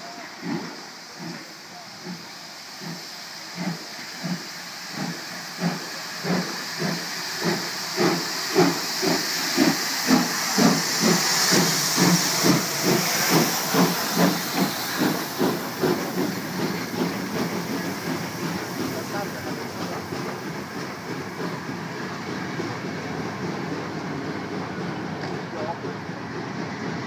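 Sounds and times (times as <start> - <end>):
steam hissing: 0.0 - 27.0
steam locomotive exhaust chuffing: 0.0 - 27.0.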